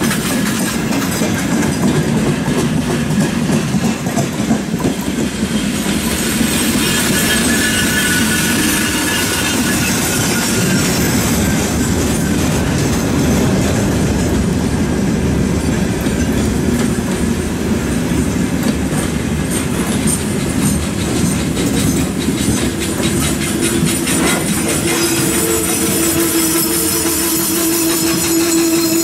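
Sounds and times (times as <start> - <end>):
steel wheels rumbling on rails: 0.0 - 29.0
wheels clacking over rail joints: 0.0 - 29.0.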